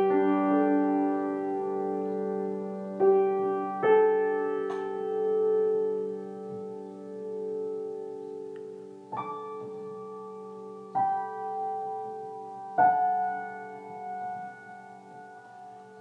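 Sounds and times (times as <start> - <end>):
slow soft piano chords: 0.0 - 16.0.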